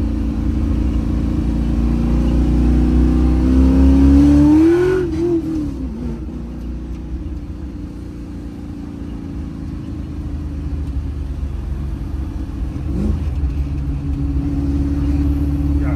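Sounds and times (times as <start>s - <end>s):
engine rumbling at low revs: 0.0s - 15.9s.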